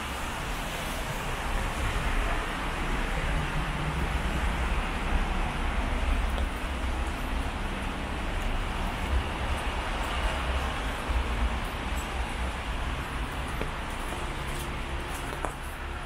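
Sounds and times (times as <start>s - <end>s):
city traffic noise: 0.0s - 16.0s
wind rumbling on microphone: 0.0s - 16.0s.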